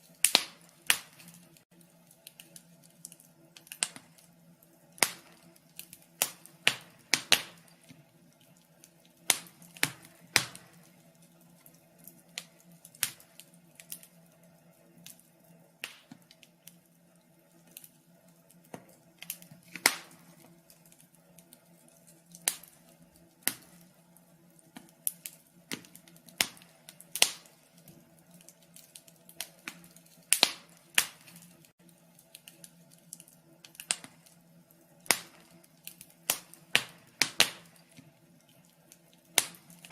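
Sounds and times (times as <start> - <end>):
faint steady hum: 0.0 - 39.9
fire crackling: 0.0 - 39.9.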